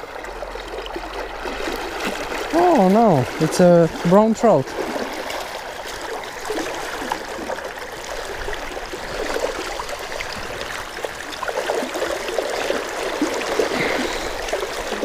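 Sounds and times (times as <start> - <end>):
river water flowing: 0.0 - 15.0
water splashing and gurgling: 0.0 - 15.0.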